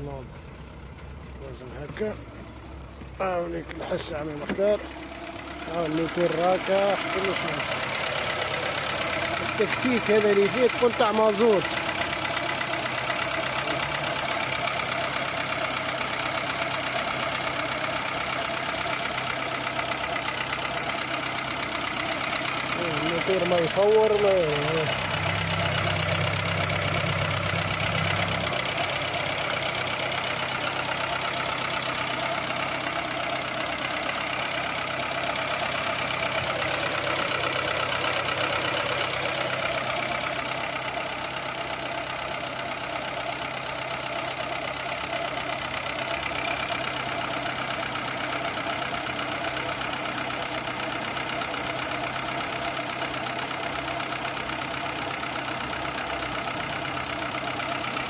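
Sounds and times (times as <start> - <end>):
car engine idling: 0.0 - 58.0
engine ticking: 0.0 - 58.0.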